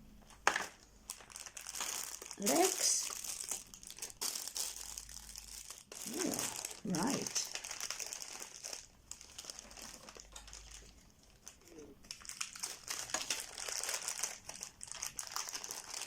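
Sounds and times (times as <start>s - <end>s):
packaging crinkling and rustling: 0.2s - 16.0s.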